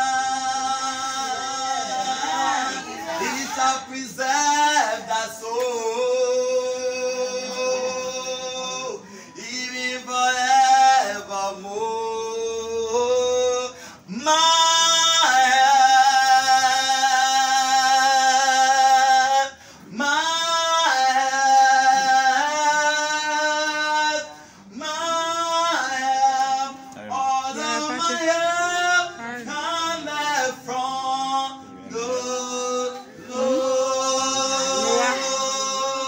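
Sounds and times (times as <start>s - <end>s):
voices singing a worship song: 0.0s - 36.0s.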